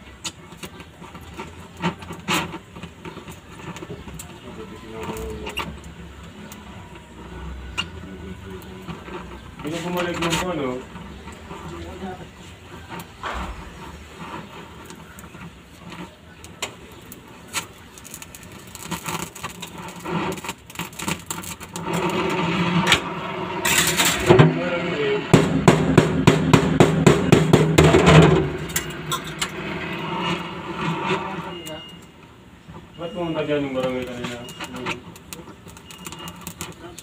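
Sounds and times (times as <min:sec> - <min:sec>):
welding torch crackling and spitting: 0:00.0 - 0:37.0.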